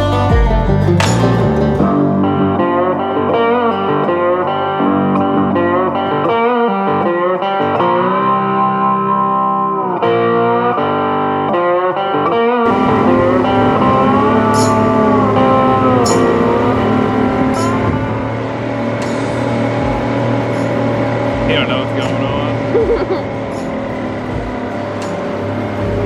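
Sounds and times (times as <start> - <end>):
guitar music with bending notes: 0.0 - 26.0.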